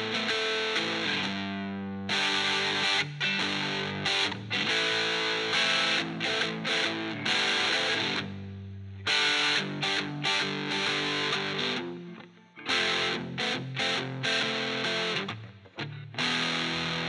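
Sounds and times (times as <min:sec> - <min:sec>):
distorted electric guitar riff: 0:00.0 - 0:17.0.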